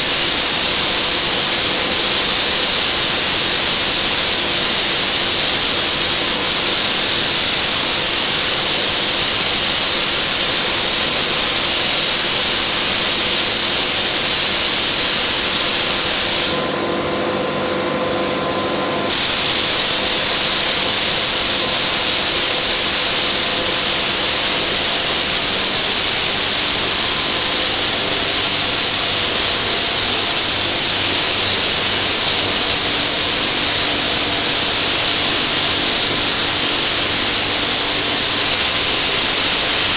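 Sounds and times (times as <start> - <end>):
paint spray gun hissing: 0.0 - 16.8, 19.0 - 39.9.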